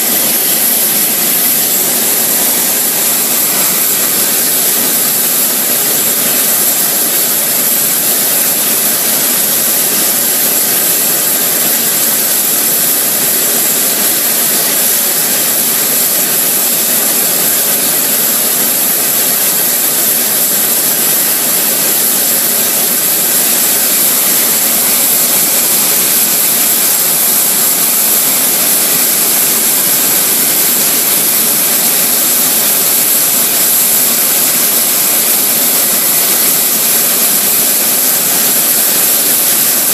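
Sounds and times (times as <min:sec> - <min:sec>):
high-pitched engine whine: 0:00.0 - 0:39.9
jet engine rushing: 0:00.0 - 0:39.9.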